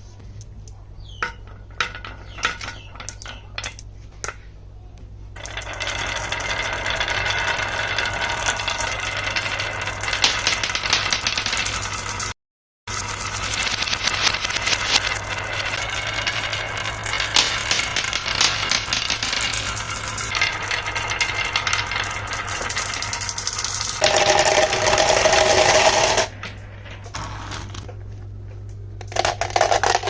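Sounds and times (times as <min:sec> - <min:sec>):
marbles rolling down wooden tracks: 0:01.6 - 0:03.8, 0:05.4 - 0:27.9, 0:29.0 - 0:30.0.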